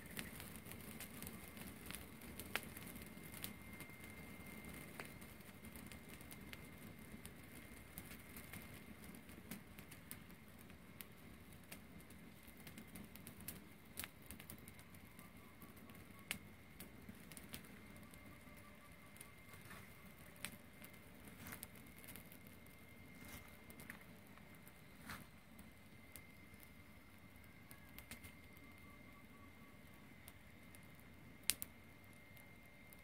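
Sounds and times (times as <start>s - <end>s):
fire pops and snaps: 0.0s - 29.0s, 30.1s - 33.0s
grass fire crackling: 0.0s - 33.0s.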